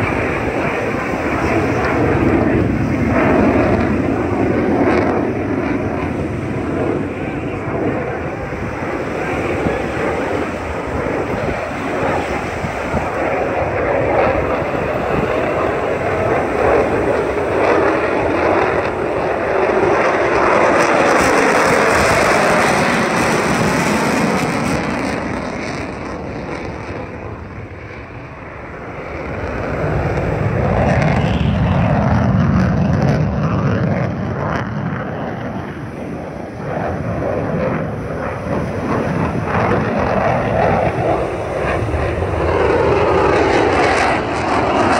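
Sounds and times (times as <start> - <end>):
jet roaring: 0.0 - 44.9.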